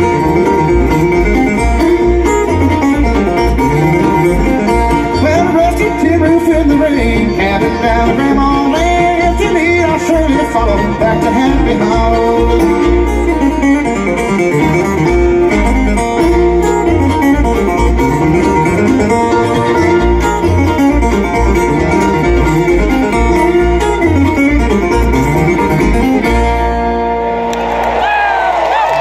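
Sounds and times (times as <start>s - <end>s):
picked acoustic guitar: 0.0s - 27.4s
banjo: 0.0s - 27.5s
bass notes: 0.0s - 27.8s.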